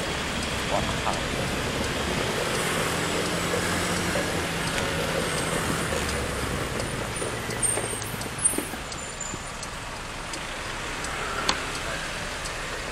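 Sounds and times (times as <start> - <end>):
road noise rush: 0.0 - 12.9
traffic engine drone: 0.0 - 12.9.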